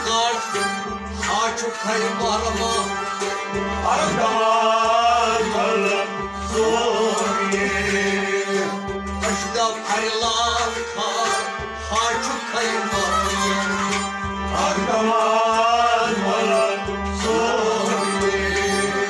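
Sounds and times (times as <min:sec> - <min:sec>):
man singing: 0:00.0 - 0:19.0
plucked stringed instruments: 0:00.0 - 0:19.0.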